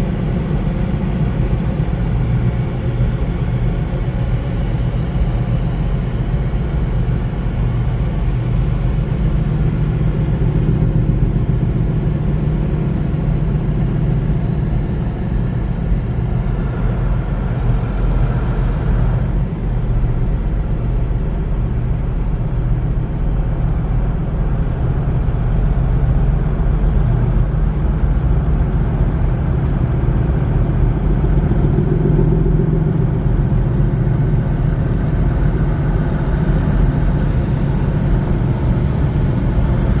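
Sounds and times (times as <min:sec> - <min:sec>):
droning hum: 0:00.0 - 0:40.0
low engine rumble: 0:00.0 - 0:40.0.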